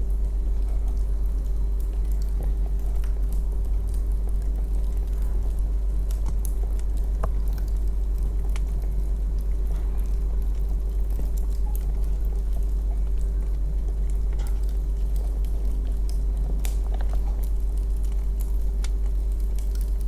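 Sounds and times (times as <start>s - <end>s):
faint steady hum: 0.0s - 20.0s
fire crackling and popping: 0.0s - 20.0s
low fire rumble: 0.0s - 20.0s.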